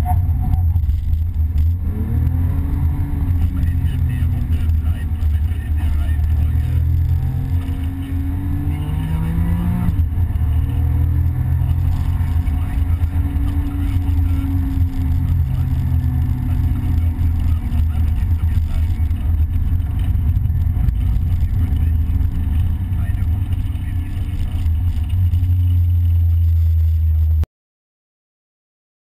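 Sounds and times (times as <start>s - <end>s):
car engine accelerating: 0.0s - 27.5s
heavy low rumble: 0.0s - 27.5s.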